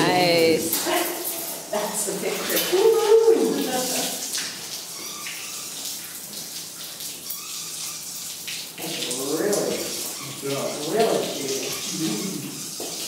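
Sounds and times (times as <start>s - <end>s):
whey pouring and splashing: 0.6s - 13.0s.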